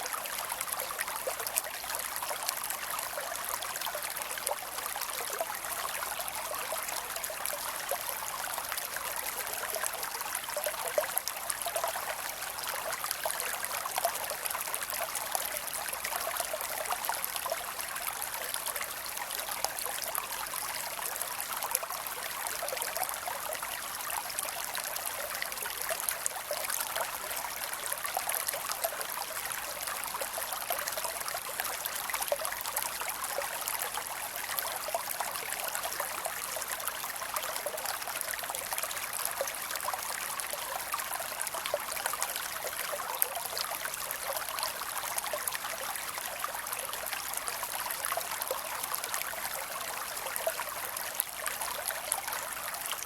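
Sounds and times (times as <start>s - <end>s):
creek water running: 0.0s - 53.0s.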